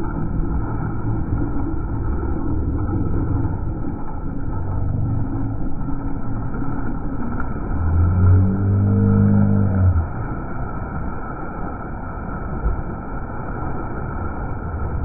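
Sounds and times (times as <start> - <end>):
boat engine rumbling: 0.0 - 15.0
water around the hull: 0.0 - 15.0.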